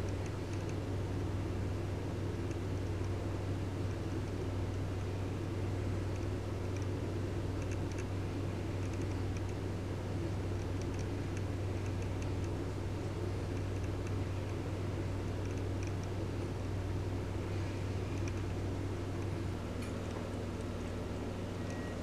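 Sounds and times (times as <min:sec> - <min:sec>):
room noise: 0:00.0 - 0:22.0
steady low hum: 0:00.0 - 0:22.0.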